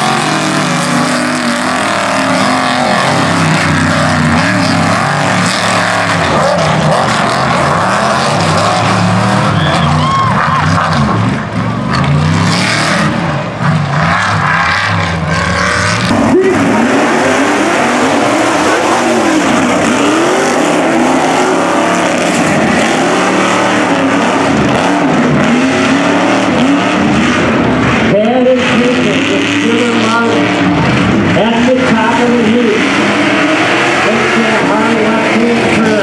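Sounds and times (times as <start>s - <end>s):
truck engine revving hard: 0.0s - 36.0s.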